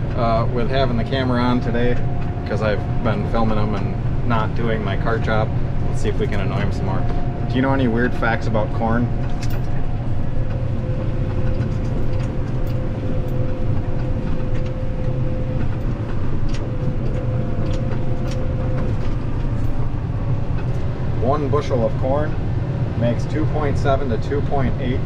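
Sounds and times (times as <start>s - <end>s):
combine engine drone: 0.0s - 25.0s
steady machine whine: 0.0s - 25.0s.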